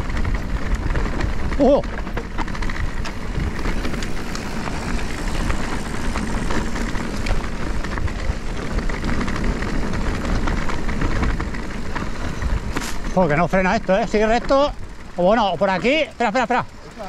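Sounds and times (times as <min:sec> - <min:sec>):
tyres on dirt: 0:00.0 - 0:17.0
bike clattering knocks: 0:00.2 - 0:16.7.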